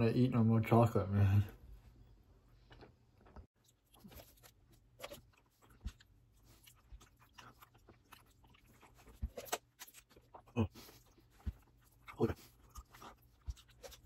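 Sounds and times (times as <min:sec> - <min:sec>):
person chewing chocolate: 0:02.5 - 0:14.0.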